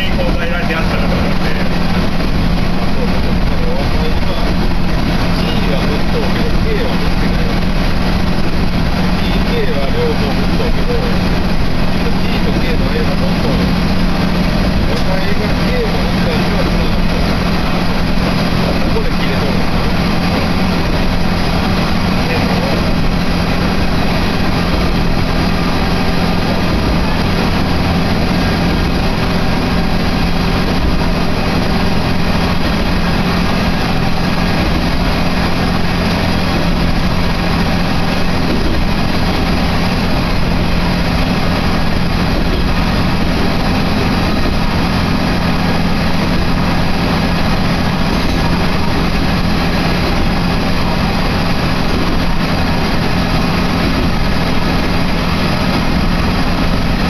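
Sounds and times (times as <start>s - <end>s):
train engine drone: 0.0s - 57.0s
train rolling noise: 0.0s - 57.0s.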